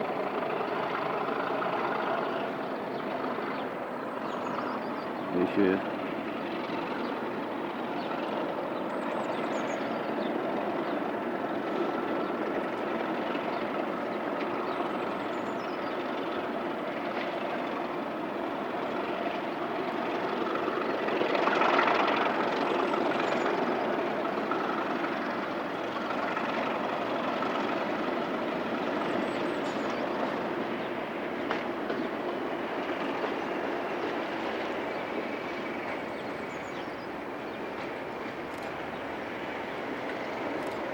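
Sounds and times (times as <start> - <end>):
diesel locomotive engines running: 0.0 - 40.9.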